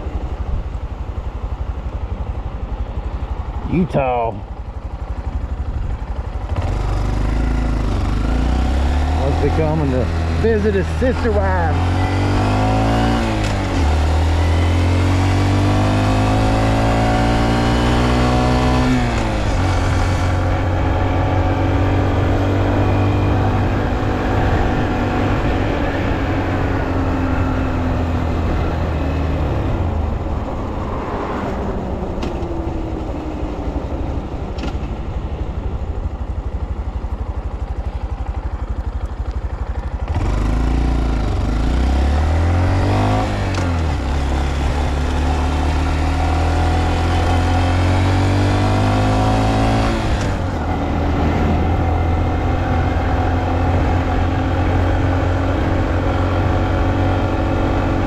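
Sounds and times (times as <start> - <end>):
motorcycle engine: 0.0 - 58.0
rushing wind: 0.0 - 58.0.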